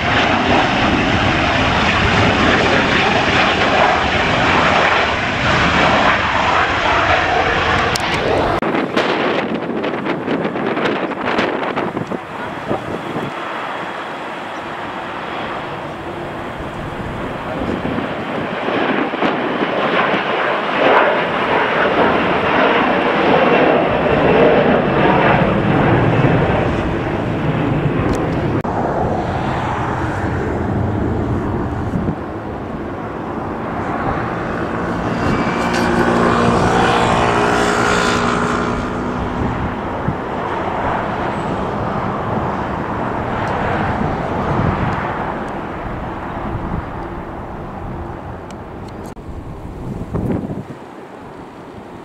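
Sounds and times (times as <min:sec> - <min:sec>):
jet airliner passing: 0:00.0 - 0:52.0
wind buffeting microphone: 0:00.0 - 0:52.0.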